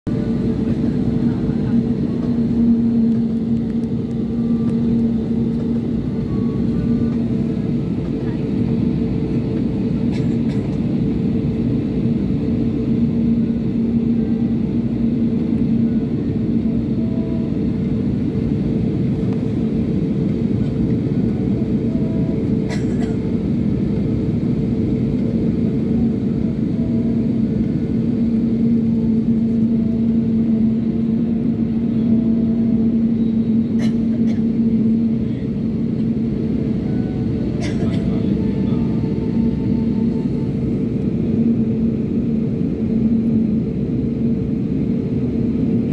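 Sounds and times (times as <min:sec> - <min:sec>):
jet engines droning in cabin: 0:00.1 - 0:45.9.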